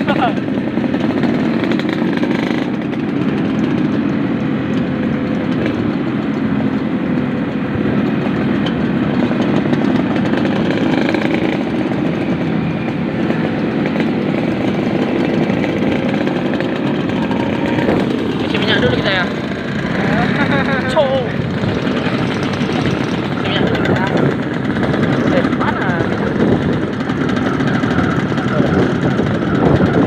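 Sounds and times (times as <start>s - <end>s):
two-stroke motorcycle engine running: 0.0s - 30.0s.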